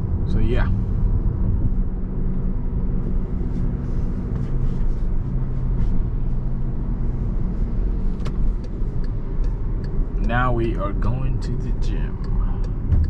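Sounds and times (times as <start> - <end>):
car engine hum: 0.0 - 13.0
road noise inside car: 0.0 - 13.0.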